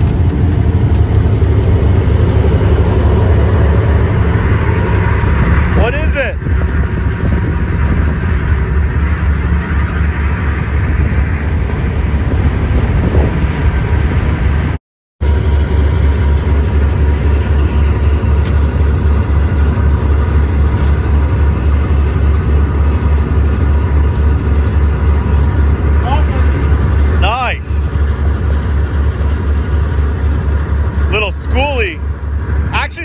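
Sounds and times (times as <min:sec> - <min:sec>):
diesel engine drone: 0:00.0 - 0:33.0
wind: 0:00.0 - 0:33.0.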